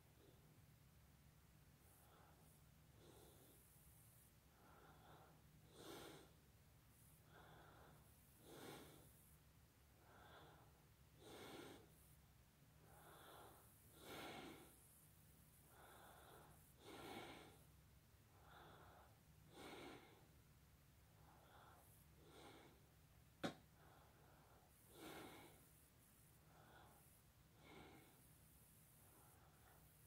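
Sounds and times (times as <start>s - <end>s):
low steady hum: 0.0s - 30.0s
slow breathing close to microphone: 1.6s - 30.0s.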